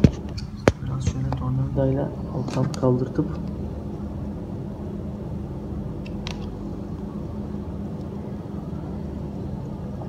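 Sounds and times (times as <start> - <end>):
low droning hum: 0.0 - 10.0.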